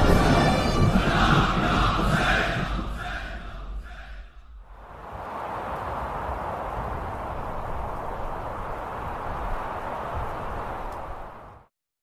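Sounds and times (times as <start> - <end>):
low rumble: 0.0 - 11.6.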